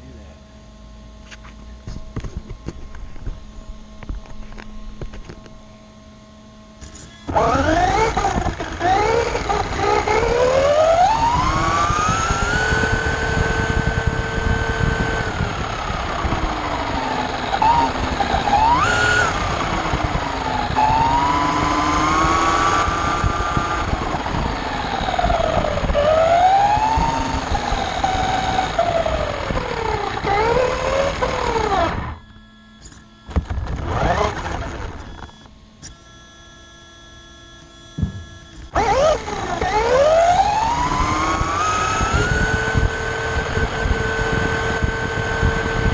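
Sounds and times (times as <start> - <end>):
faint steady hum: 0.0 - 45.9
electric motor whining: 1.1 - 45.9.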